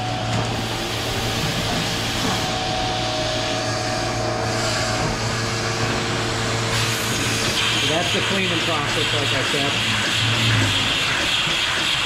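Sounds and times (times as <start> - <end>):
milking machine hum: 0.0 - 12.0.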